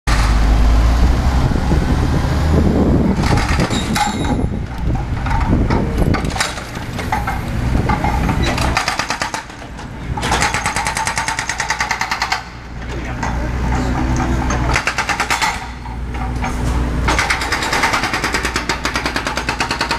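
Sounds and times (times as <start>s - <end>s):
hydraulic breaker hammering road: 2.4s - 19.9s.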